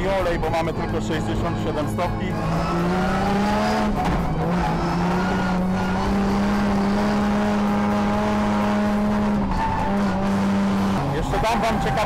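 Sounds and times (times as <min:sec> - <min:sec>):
car engine from inside cabin: 0:00.1 - 0:12.0.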